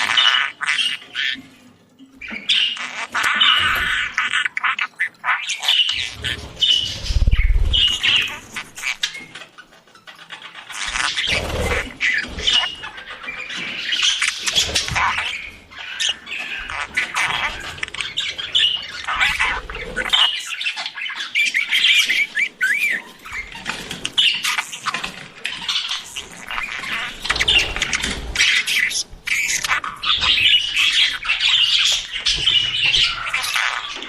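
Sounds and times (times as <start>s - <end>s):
budgerigars chattering and chirping: 0.0s - 34.0s.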